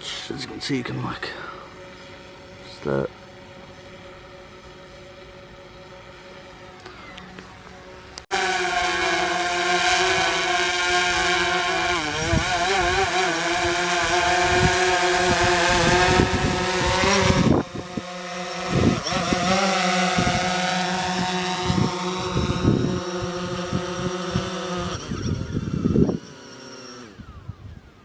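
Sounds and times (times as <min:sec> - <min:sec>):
drone propellers buzzing: 0:00.0 - 0:28.0.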